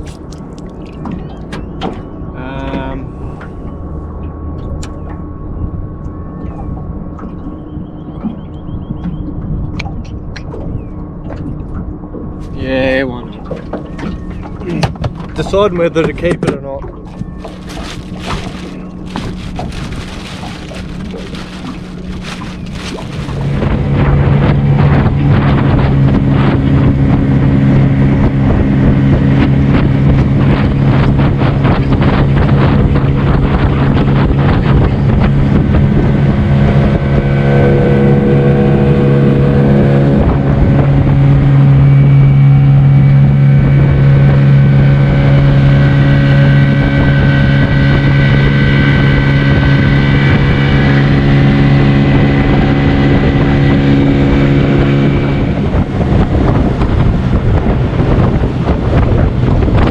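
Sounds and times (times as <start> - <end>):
outboard motor running: 0.0 - 59.9
wind on microphone: 0.0 - 59.9.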